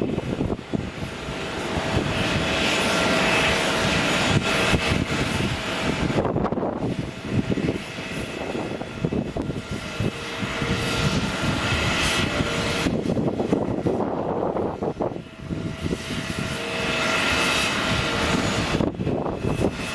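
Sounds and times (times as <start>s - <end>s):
faint jet engine whine: 0.0s - 19.9s
jet engines roaring: 0.0s - 19.9s.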